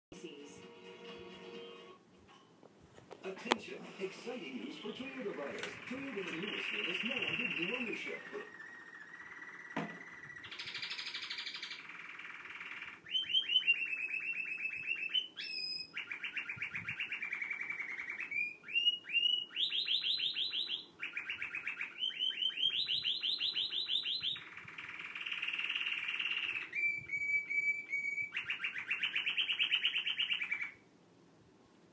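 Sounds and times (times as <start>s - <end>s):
canary singing trills: 4.4s - 30.8s.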